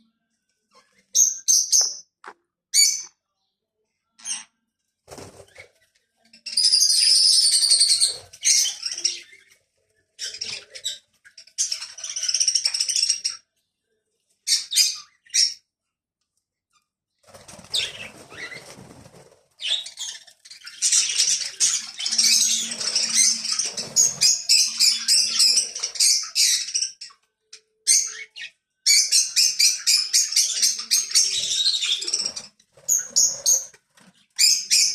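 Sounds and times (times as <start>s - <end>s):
birds chirping and squawking: 0.7s - 3.2s, 4.1s - 13.6s, 14.5s - 15.7s, 17.3s - 34.9s.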